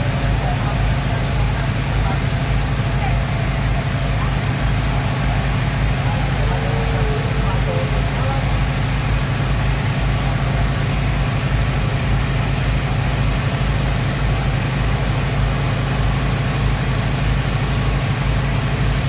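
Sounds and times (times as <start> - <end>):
speedboat engines droning: 0.0 - 19.0.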